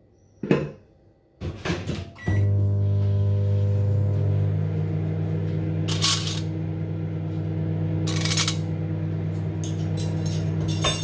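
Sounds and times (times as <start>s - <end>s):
microwave oven humming: 1.9s - 11.0s.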